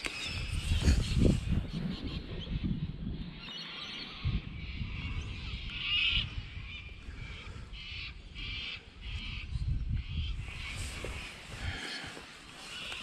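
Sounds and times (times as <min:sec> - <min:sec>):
birds calling: 0:00.0 - 0:13.0
wind rumble on microphone: 0:00.0 - 0:13.0.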